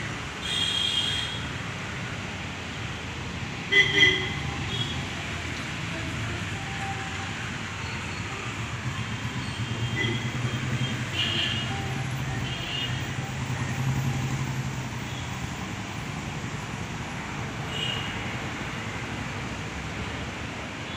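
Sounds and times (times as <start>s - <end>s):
road traffic passing: 0.0s - 20.9s.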